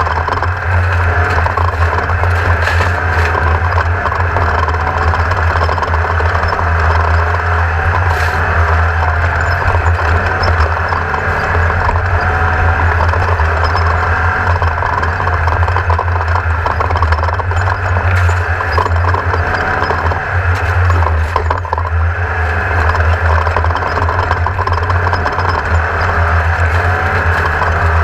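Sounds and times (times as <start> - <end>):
chassis rattling and clattering: 0.0 - 28.0
race car engine revving: 0.0 - 28.0.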